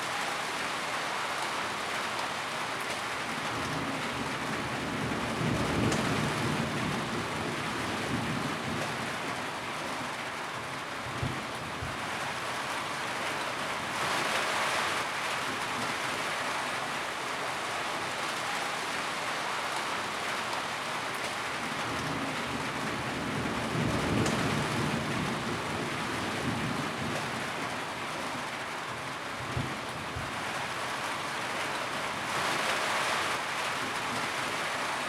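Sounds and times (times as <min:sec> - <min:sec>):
rain on a tin roof: 0:00.0 - 0:35.0.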